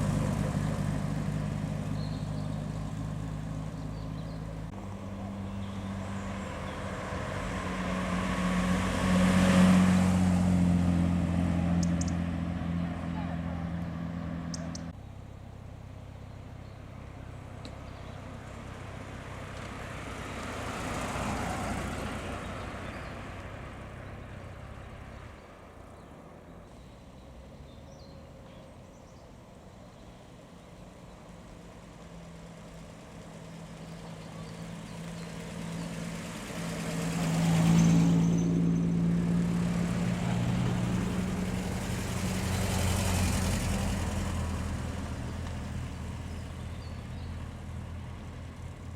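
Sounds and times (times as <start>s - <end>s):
cars driving past: 0.0s - 48.9s
deep car engine passing: 0.0s - 48.9s.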